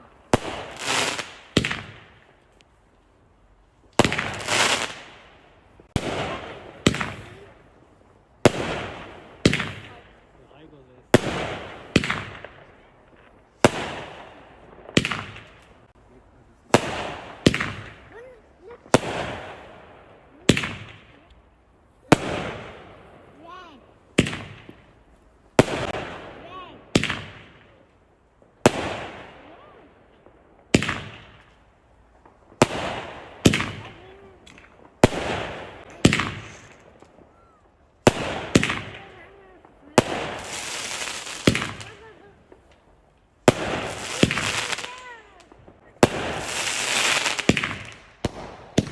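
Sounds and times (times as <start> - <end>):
fireworks bangs with echo: 0.0 - 2.4, 4.0 - 7.8, 8.4 - 16.0, 16.7 - 21.3, 22.0 - 27.9, 28.6 - 48.9.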